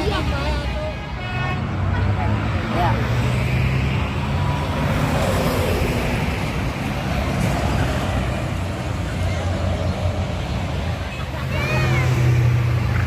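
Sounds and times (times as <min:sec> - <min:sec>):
heavy vehicle engine hum: 0:00.0 - 0:13.0.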